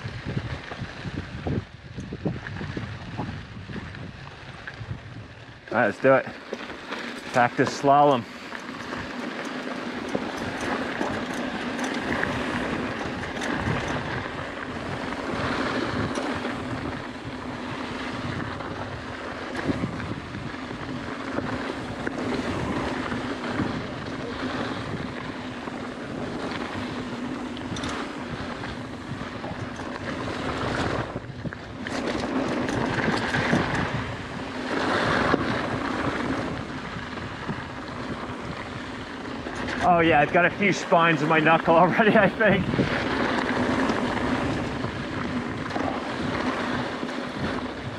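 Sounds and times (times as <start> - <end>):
bike rattling: 0.0 - 47.9
bike tyres on dirt trail: 0.0 - 47.9
wind buffeting microphone: 0.0 - 47.9.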